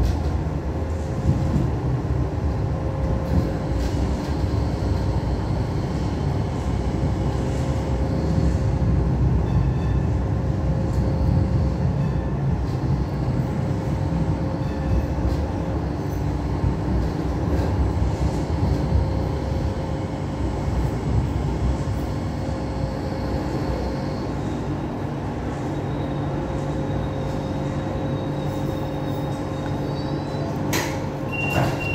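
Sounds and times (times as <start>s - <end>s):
train wheels rumbling: 0.0s - 31.9s.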